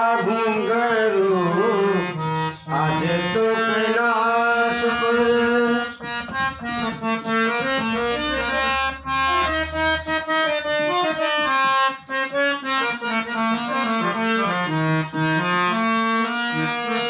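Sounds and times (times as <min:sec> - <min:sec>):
harmonium melody: 0:00.0 - 0:17.0.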